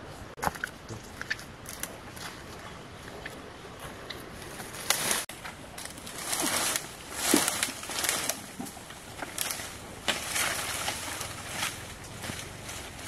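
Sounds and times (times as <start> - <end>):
leaves and twigs rustling: 0.0 - 13.0.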